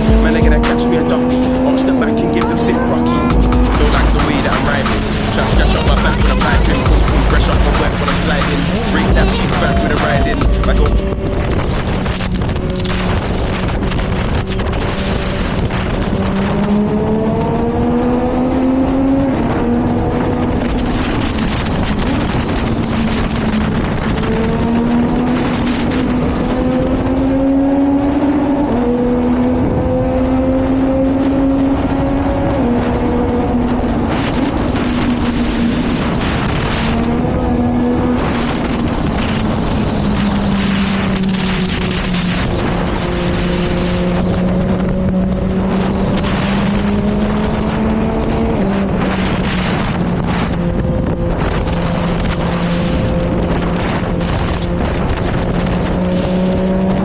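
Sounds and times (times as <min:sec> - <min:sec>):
motorcycle engine shifting gears: 0:00.0 - 0:05.6, 0:11.0 - 0:57.0
wind on microphone: 0:00.0 - 0:57.0.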